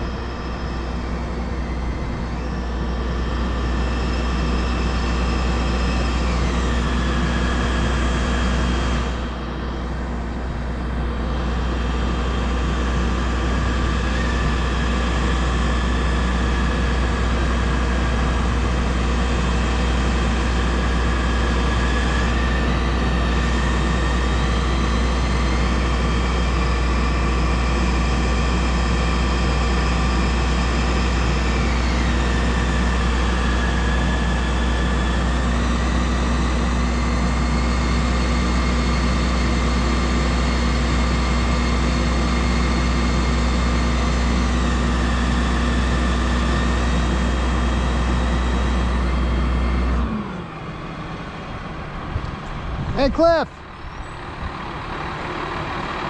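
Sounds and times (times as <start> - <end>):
hydraulic whine: 0.0 - 52.9, 53.5 - 56.0
truck engine rumbling: 0.0 - 56.0.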